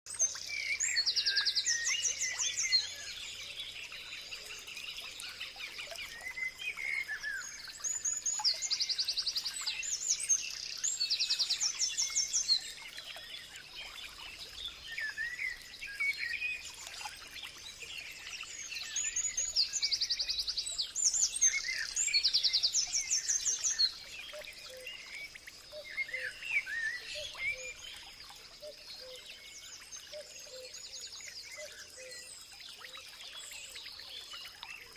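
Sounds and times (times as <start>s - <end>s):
birds singing and chirping: 0.1s - 34.9s.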